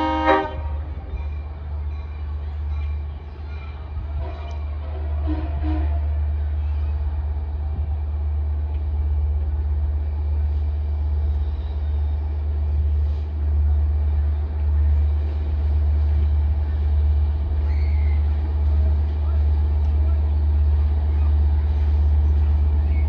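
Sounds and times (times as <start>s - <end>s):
diesel train rumbling: 0.0s - 23.0s.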